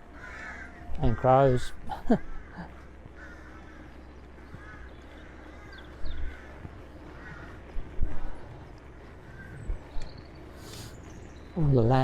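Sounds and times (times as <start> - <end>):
crows cawing: 0.0 - 10.9.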